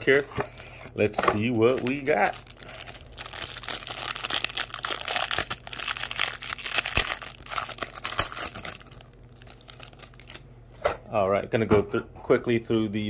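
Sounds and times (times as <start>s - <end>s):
plastic wrapper crinkling: 0.0s - 10.5s.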